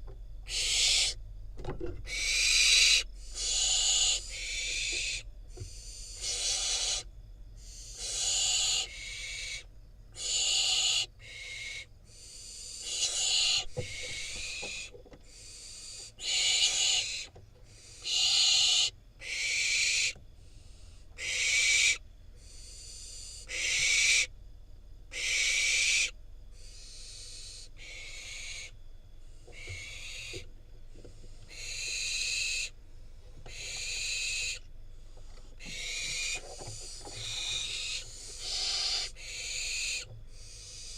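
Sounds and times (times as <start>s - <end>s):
owl chick hissing begging calls: 0.4s - 1.2s, 2.1s - 24.3s, 25.1s - 28.8s, 29.4s - 30.5s, 31.5s - 32.8s, 33.5s - 34.7s, 35.6s - 40.9s.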